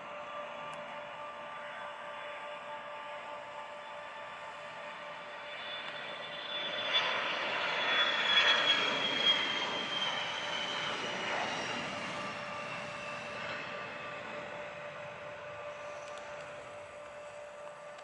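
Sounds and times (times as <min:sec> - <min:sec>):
jet engines passing by: 0:00.0 - 0:18.0.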